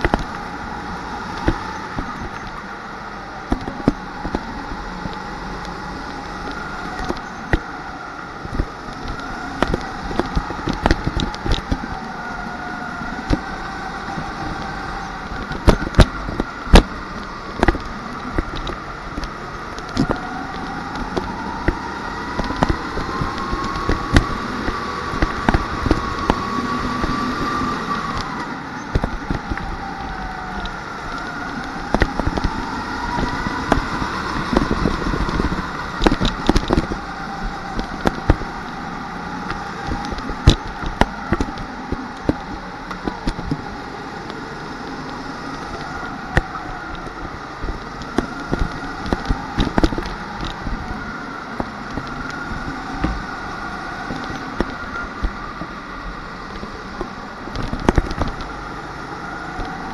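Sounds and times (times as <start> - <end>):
go-kart motor whine: 0.0 - 59.9.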